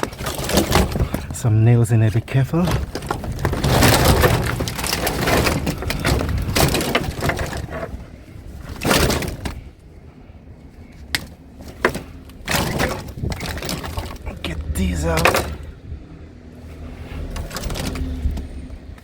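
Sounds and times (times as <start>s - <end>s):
debris cracking and rattling: 0.0s - 9.8s, 11.1s - 15.7s, 17.3s - 19.0s.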